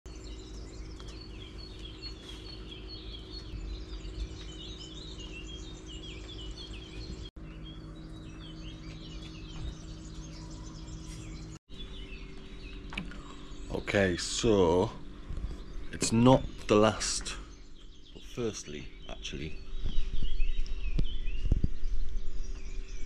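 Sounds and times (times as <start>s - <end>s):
birds chirping and singing: 0.1s - 23.0s.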